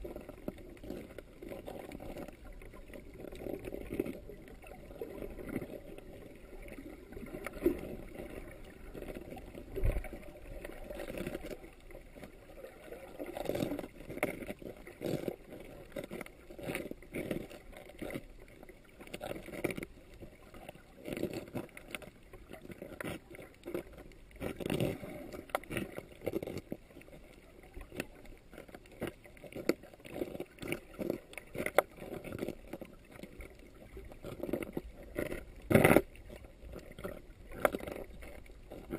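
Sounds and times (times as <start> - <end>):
underwater clicks and knocks: 0.0 - 38.9
underwater water movement: 0.0 - 38.9.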